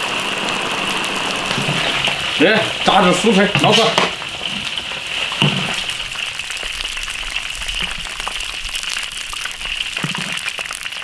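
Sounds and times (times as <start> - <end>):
frying in hot oil: 0.0 - 11.0.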